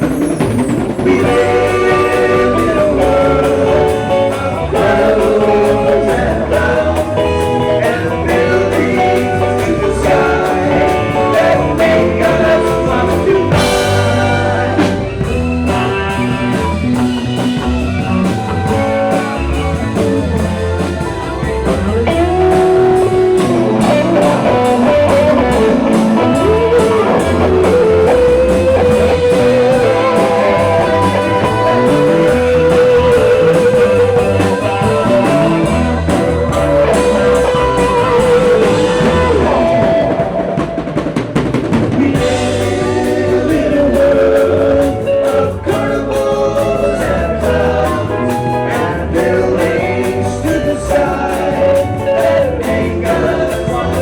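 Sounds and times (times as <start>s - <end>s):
live rock band: 0.0s - 54.0s
person singing: 0.0s - 54.0s.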